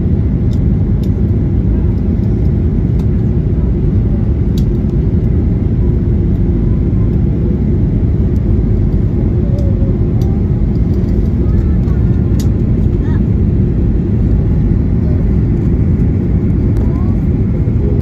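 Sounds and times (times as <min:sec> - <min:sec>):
airflow over fuselage: 0:00.0 - 0:18.0
airplane engines rumbling: 0:00.0 - 0:18.0.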